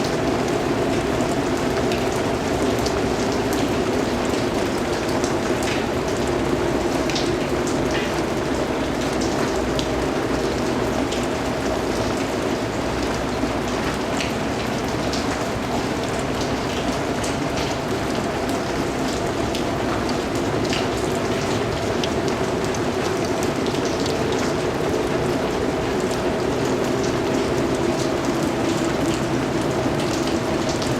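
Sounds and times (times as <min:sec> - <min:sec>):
drips ticking: 0:00.0 - 0:30.9
steady rain hiss: 0:00.0 - 0:30.9.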